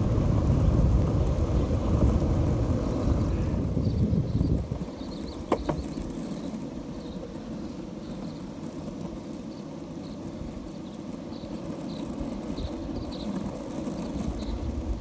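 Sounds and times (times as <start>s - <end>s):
longboard wheels rolling on asphalt: 0.0s - 15.0s.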